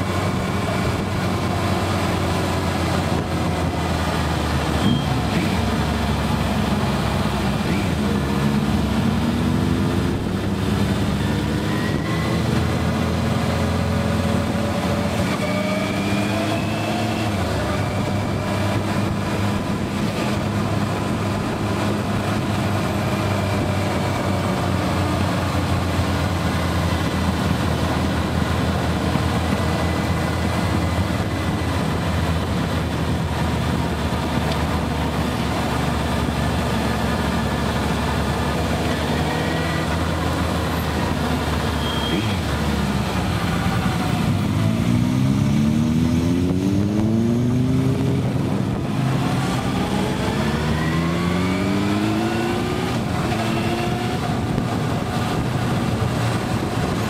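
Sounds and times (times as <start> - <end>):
motorcycle engine: 0.0 - 57.0
rush of noise: 0.0 - 57.0.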